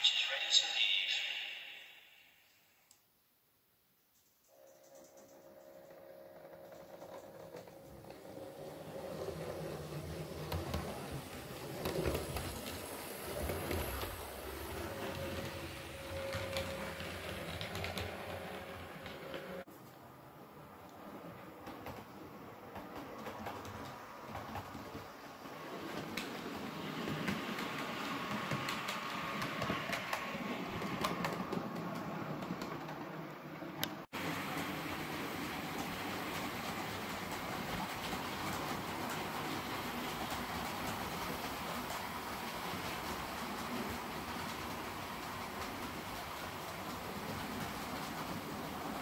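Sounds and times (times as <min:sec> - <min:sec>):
model train rumbling: 0:05.3 - 0:19.7, 0:21.3 - 0:49.0
wheels clicking over rail joints: 0:05.3 - 0:19.7, 0:21.5 - 0:49.0.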